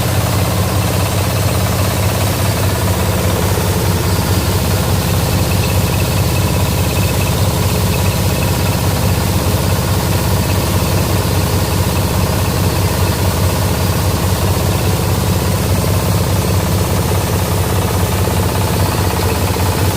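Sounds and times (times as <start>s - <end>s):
grinding mill droning: 0.0s - 19.9s.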